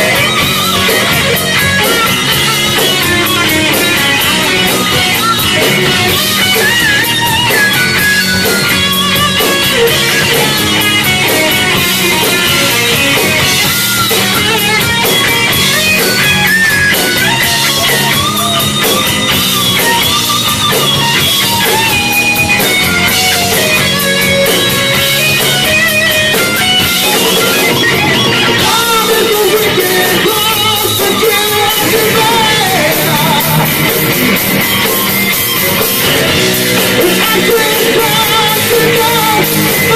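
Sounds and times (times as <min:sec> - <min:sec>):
live heavy metal band: 0:00.0 - 0:39.9.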